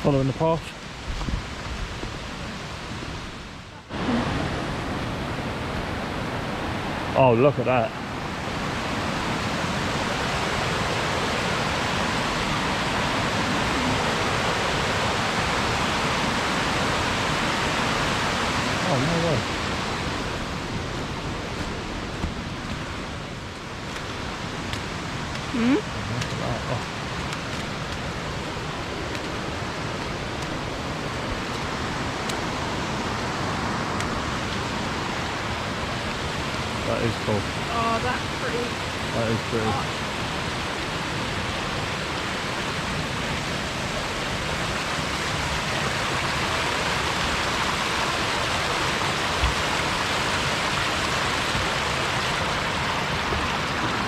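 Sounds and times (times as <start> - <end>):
waterfall rushing water: 0.0 - 54.0.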